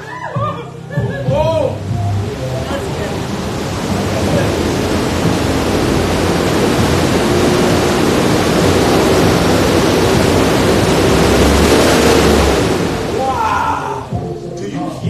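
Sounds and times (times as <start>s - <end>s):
air-brake fan rushing whir: 0.0s - 15.0s.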